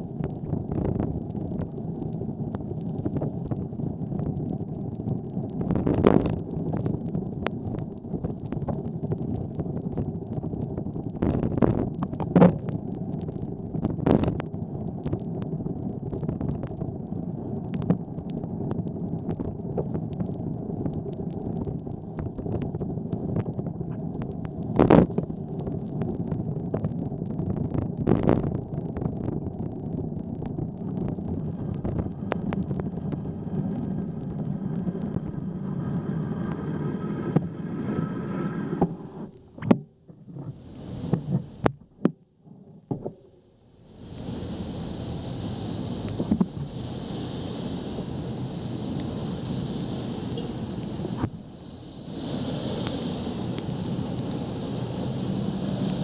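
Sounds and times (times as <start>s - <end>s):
faint steady hum: 0.0s - 56.0s
road and wind rumble: 0.0s - 56.0s.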